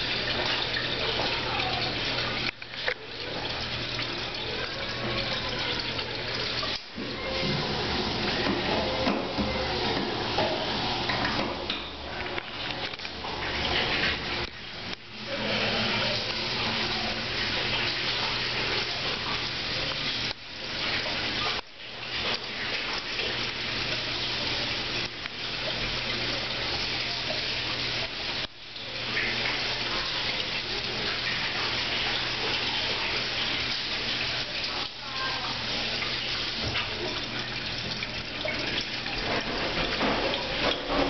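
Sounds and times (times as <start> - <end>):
toilet water rushing and swirling: 0.0 - 41.0.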